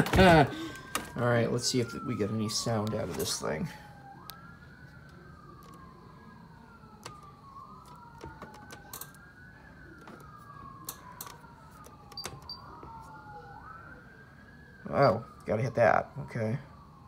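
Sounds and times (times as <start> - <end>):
faint sirens wailing: 0.0 - 17.0.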